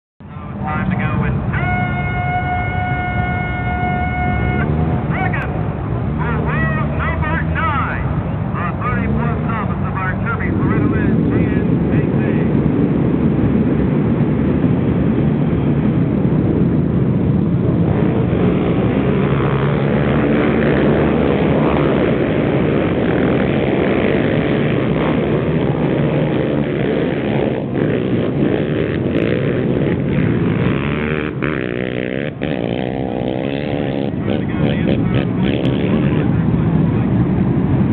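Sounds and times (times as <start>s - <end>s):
quad engines at full throttle: 0.2s - 37.9s.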